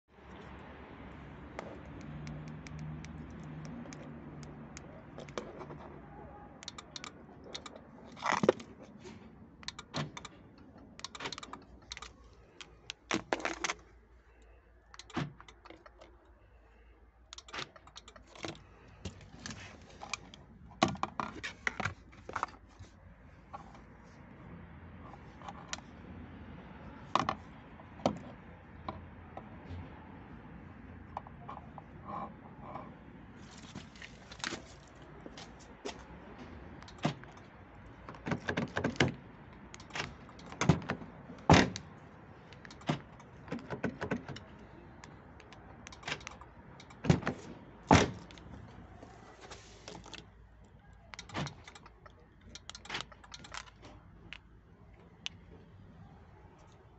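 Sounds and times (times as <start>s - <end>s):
car keys clicking and rattling: 0.2s - 24.0s, 24.9s - 26.1s, 26.9s - 29.6s, 30.9s - 55.8s.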